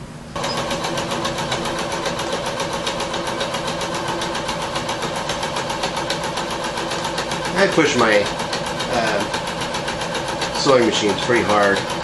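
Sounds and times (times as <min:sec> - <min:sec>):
sewing machine stitching: 0:00.4 - 0:12.0.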